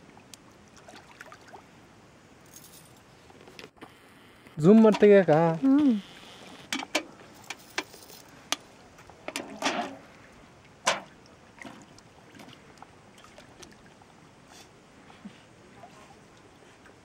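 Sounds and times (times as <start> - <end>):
water sloshing and lapping: 0.0 - 1.9, 4.6 - 17.0.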